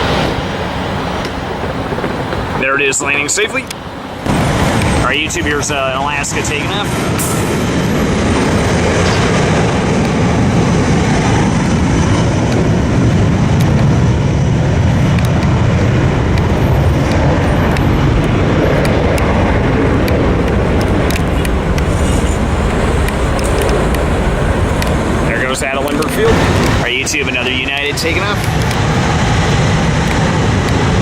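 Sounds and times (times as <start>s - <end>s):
jet airliner engines taking off: 0.0s - 31.0s.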